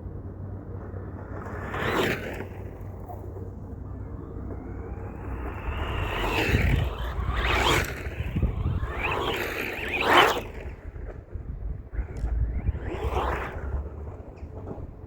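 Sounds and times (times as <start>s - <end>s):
wind rumble on microphone: 0.0s - 15.0s
rc car motor whine: 1.2s - 15.0s.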